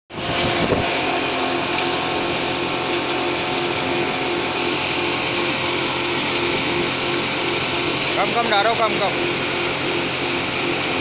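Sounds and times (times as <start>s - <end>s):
wood crusher whirring: 0.2s - 11.0s.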